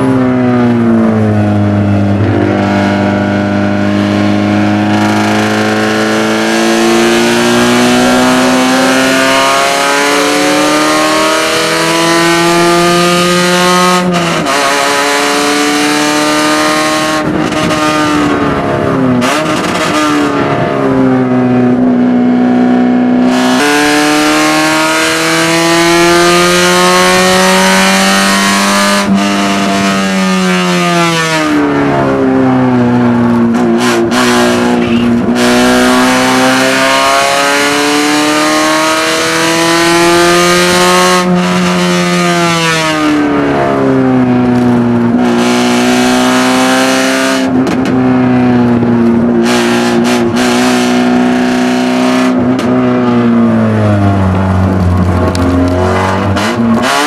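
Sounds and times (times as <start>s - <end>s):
race car engine revving and shifting: 0.0s - 57.0s.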